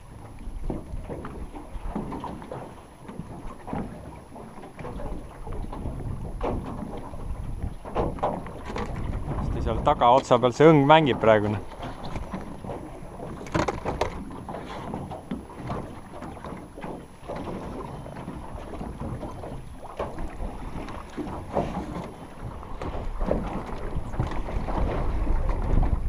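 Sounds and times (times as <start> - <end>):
waves slapping boat hull: 0.0 - 26.0
wind buffeting microphone: 0.0 - 26.0.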